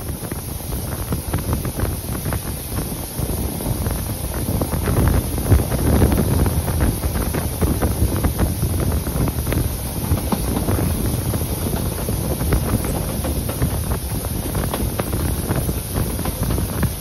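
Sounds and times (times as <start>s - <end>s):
train clicks and knocks: 0.0s - 17.0s
train running rumble: 0.0s - 17.0s
wind buffeting microphone: 0.0s - 17.0s.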